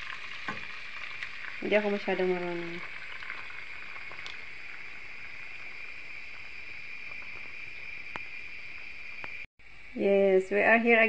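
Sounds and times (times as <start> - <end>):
egg mixture sizzling in a frying pan: 0.0 - 9.5.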